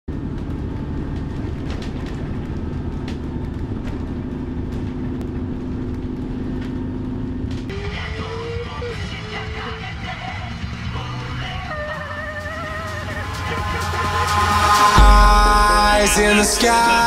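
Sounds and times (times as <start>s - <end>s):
bus engine rumble: 0.1s - 17.0s
engine whine: 0.1s - 17.0s.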